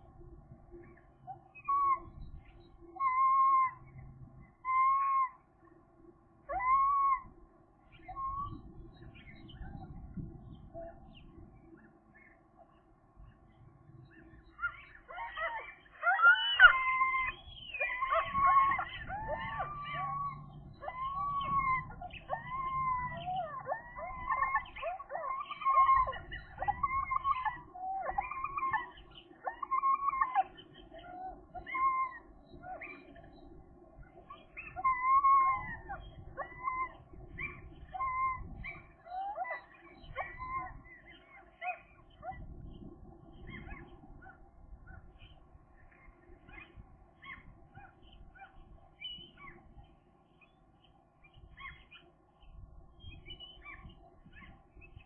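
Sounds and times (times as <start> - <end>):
gulls calling: 0.8 - 5.8, 6.4 - 12.9, 14.0 - 50.6.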